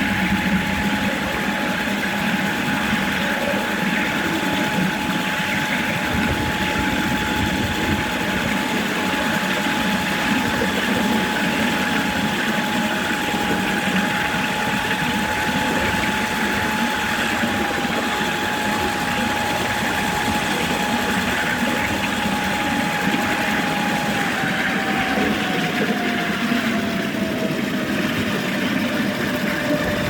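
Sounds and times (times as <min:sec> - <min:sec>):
electric locomotive motor whine: 0:00.0 - 0:30.0
running rumble: 0:00.0 - 0:30.0.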